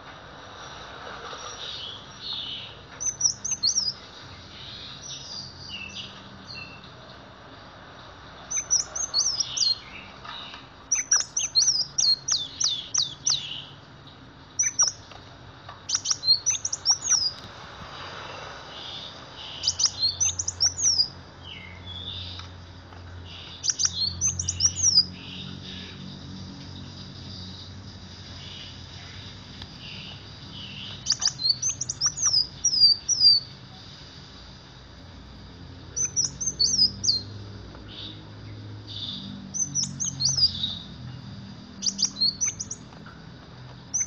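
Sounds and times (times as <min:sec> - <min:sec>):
sunbird chirping: 0:00.0 - 0:44.0.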